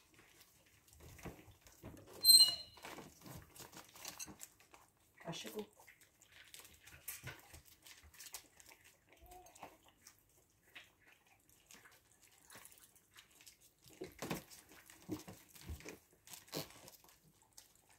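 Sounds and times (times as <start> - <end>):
dogs licking and lapping food: 0.0 - 17.9.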